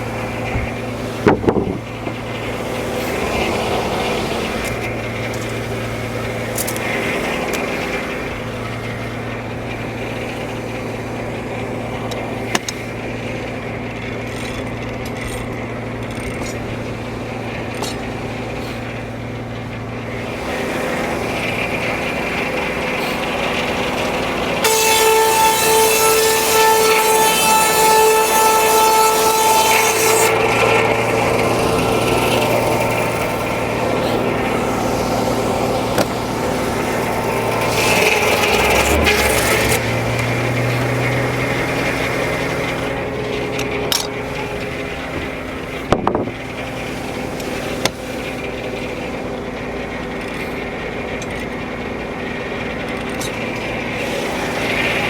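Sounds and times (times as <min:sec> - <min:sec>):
saw blade whining through log: 0:00.0 - 0:55.0
sawmill running: 0:00.0 - 0:55.0.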